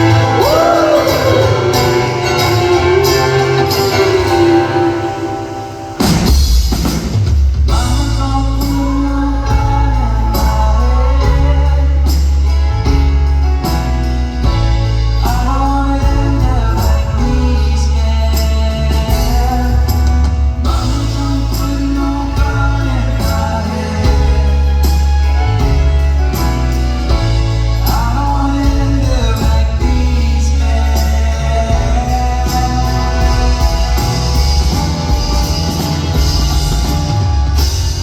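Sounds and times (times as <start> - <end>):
person singing: 0.0 - 5.8, 7.7 - 13.2, 15.1 - 37.9
heavy bass line: 0.0 - 7.0, 7.6 - 38.0
drums: 0.0 - 38.0
live folk-rock band: 0.0 - 38.0.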